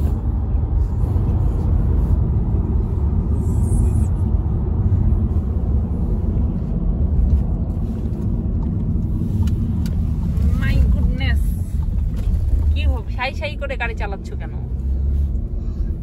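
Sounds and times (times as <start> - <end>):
car driving heard from cabin: 0.0 - 16.0.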